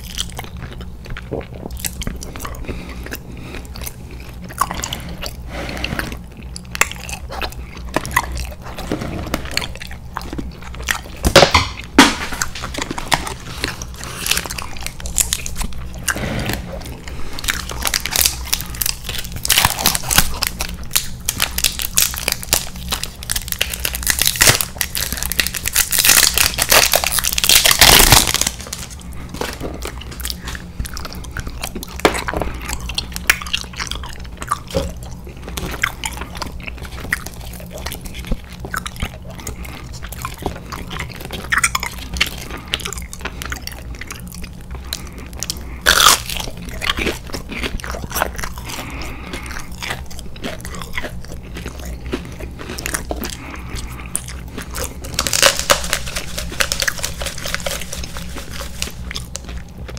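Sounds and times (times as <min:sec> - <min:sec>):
chewing and biting candy: 0:00.0 - 0:59.9
candy wrapper crinkling: 0:06.5 - 0:59.9.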